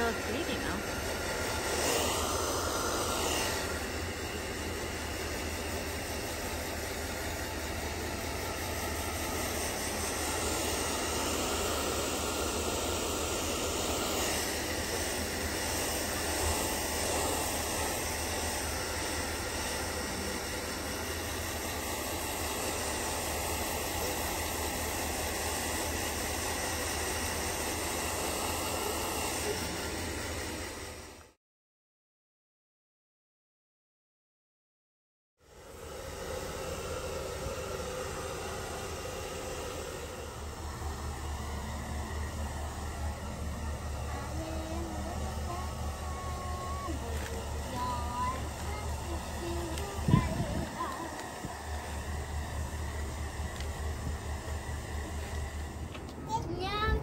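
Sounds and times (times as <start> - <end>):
hair dryer blowing: 0.0 - 31.4, 35.4 - 57.0.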